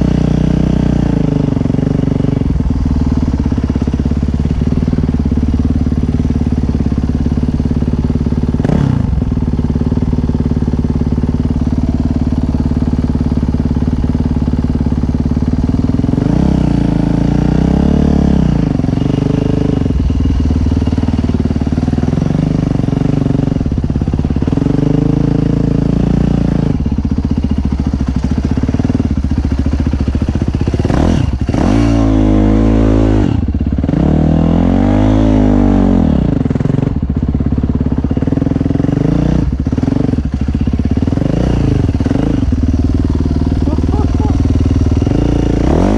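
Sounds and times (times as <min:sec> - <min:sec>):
dirt bike engine revving: 0:00.0 - 0:37.0, 0:37.8 - 0:45.9.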